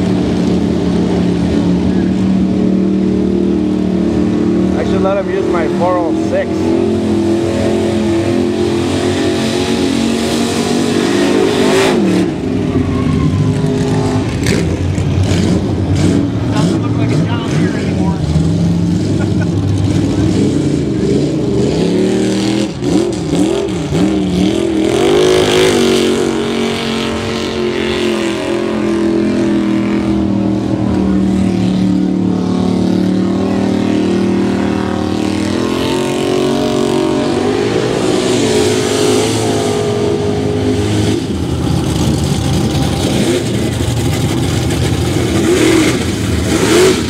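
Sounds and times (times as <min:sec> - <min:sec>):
truck engines revving: 0:00.0 - 0:47.0.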